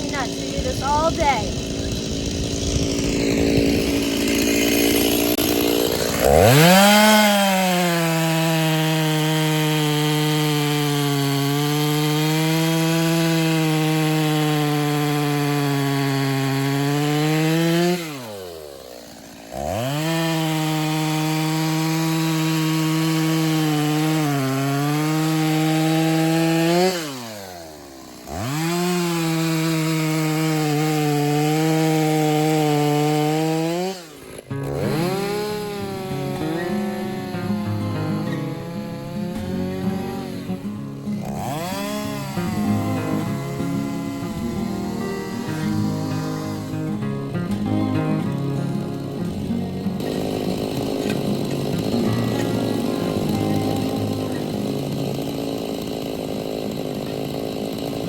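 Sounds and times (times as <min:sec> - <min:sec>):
chainsaw cutting logs: 0:00.0 - 0:58.0.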